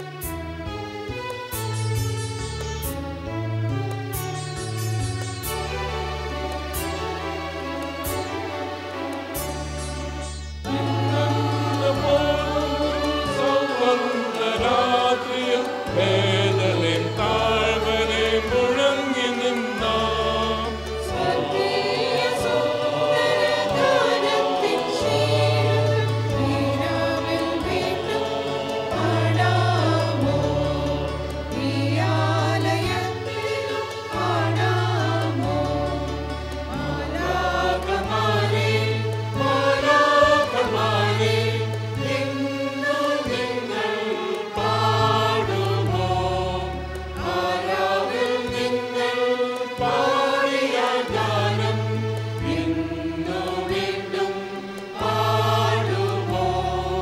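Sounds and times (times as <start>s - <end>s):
sustained bass accompaniment: 0.0s - 57.0s
mixed choir singing a carol: 10.7s - 57.0s.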